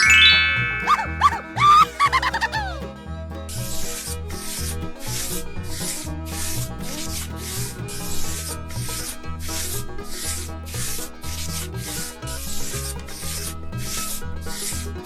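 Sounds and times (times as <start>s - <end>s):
background music with bass: 0.0s - 15.0s.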